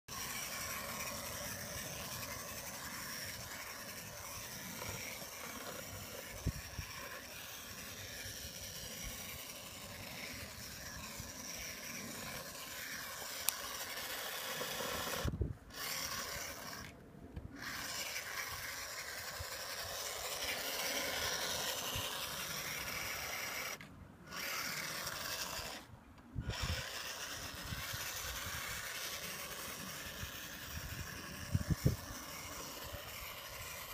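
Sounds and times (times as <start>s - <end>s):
electric motor and gear drive: 0.0s - 33.9s
toy car crawling over gravel: 0.1s - 33.9s.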